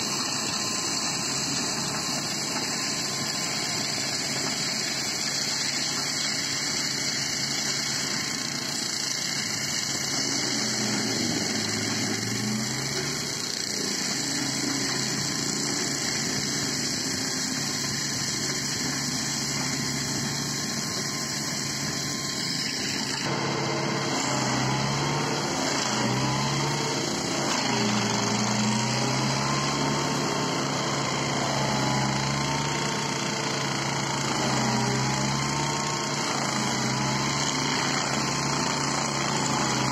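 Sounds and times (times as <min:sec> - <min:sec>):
mulcher shredding brush: 0:00.0 - 0:39.9
tractor engine: 0:00.0 - 0:39.9.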